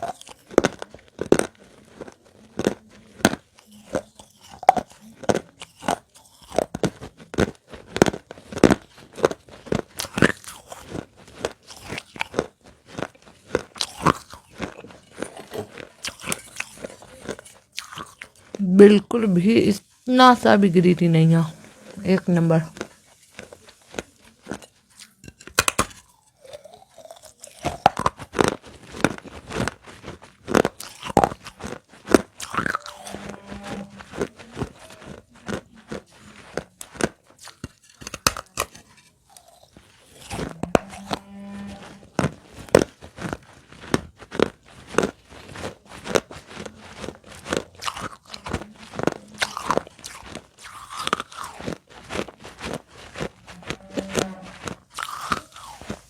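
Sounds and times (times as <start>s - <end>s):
crunching and chewing clay: 0.0s - 56.0s.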